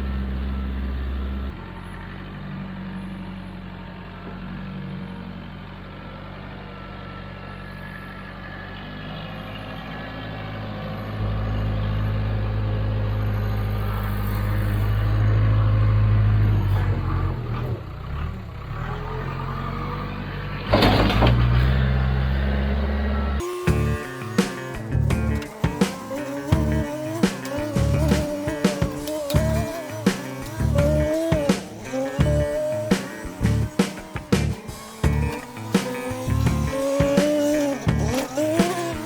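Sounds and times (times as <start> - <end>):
backhoe diesel engine running: 0.0 - 39.0.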